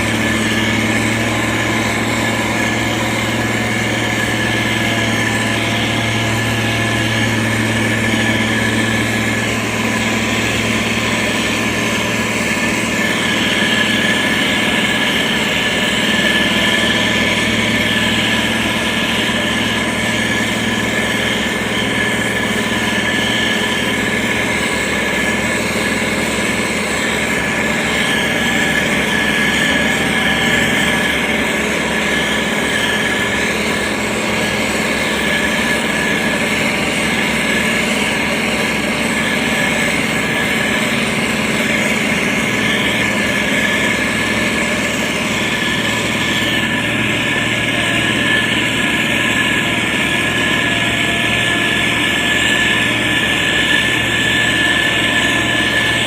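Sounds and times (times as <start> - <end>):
diesel engine running: 0.0 - 56.0
high engine whine: 0.0 - 56.0.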